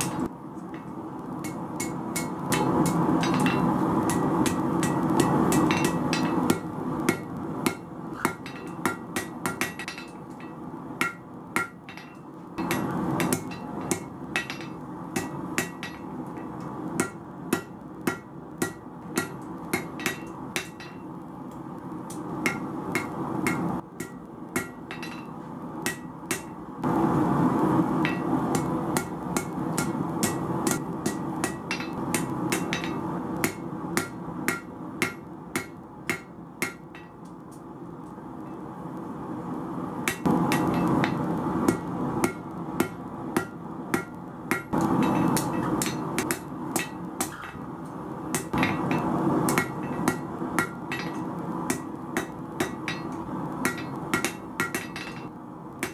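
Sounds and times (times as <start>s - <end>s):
hammer striking steel on anvil: 0.0s - 21.2s, 22.1s - 26.6s, 28.0s - 37.4s, 40.0s - 55.9s
gas forge burner roar: 0.0s - 55.9s.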